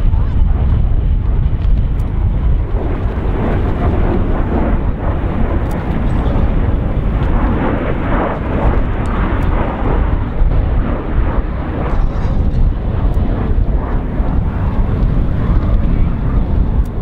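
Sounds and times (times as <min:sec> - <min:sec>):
jet fighter rumble: 0:00.0 - 0:17.0.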